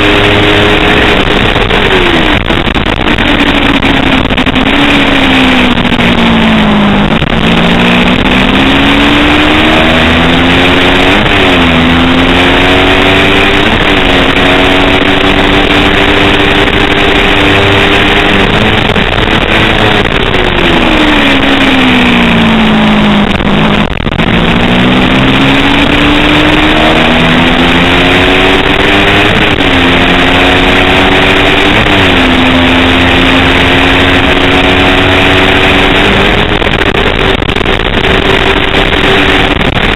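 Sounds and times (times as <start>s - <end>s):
loud steady rush of noise: 0.0s - 39.9s
racing motorcycle engine revving: 0.0s - 39.9s.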